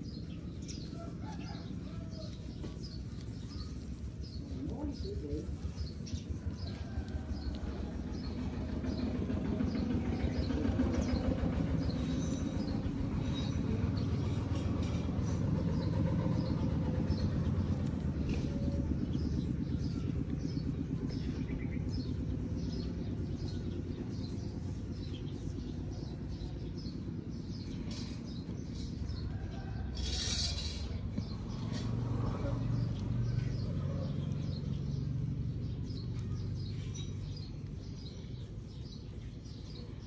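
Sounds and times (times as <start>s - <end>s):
low rumble: 1.6s - 40.0s.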